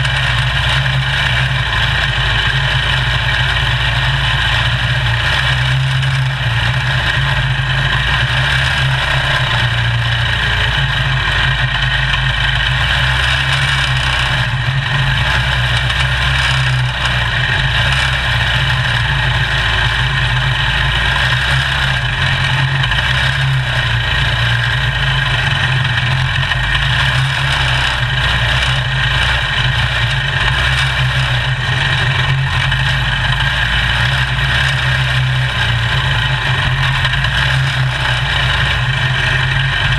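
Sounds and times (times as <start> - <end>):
small race car engine droning: 0.0 - 39.9.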